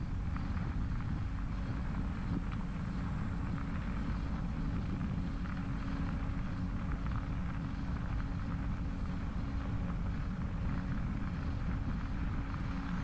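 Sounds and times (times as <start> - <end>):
grit crackling under tyres: 0.0 - 13.0
steady low hum: 0.0 - 13.0
wind rumble on microphone: 0.0 - 13.0
bicycle tyres rolling on wet trail: 0.2 - 13.0.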